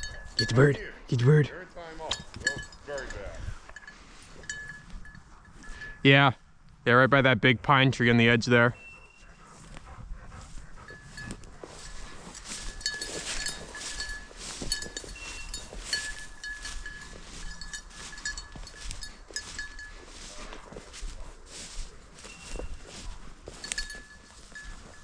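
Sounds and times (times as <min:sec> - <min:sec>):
rustling and crunching through brush: 0:00.0 - 0:00.4, 0:01.8 - 0:06.1, 0:08.8 - 0:25.0
small bell jingling: 0:00.0 - 0:06.2, 0:10.7 - 0:25.0.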